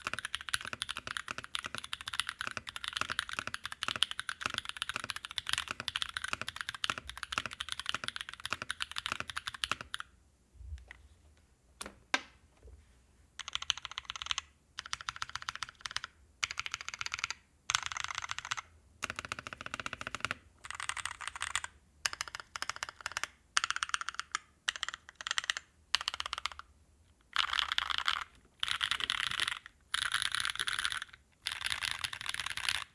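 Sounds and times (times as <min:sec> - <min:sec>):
mechanical keyboard typing: 0:00.0 - 0:10.1, 0:13.4 - 0:26.7, 0:27.4 - 0:32.9.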